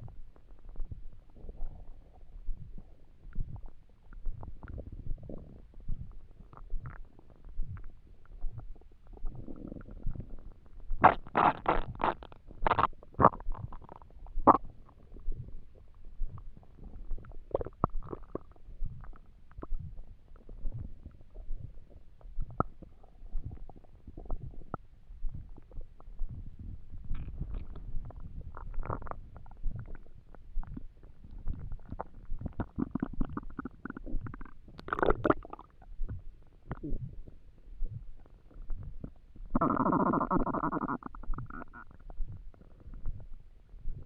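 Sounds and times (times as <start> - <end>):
stomach rumbling and gurgling: 0.0 - 44.0.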